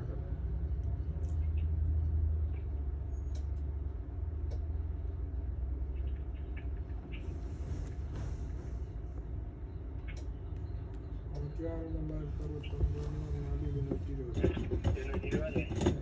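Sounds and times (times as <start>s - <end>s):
engine low rumble: 0.0s - 16.0s.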